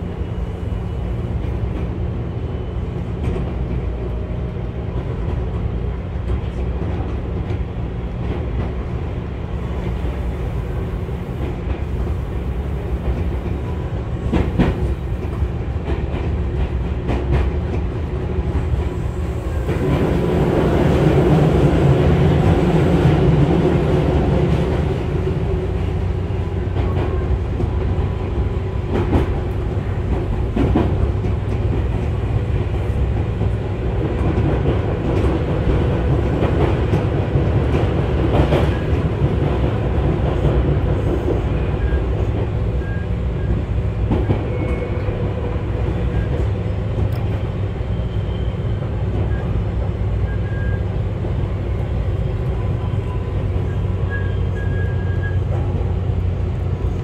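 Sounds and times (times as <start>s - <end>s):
train wheels rumbling inside car: 0.0s - 57.0s.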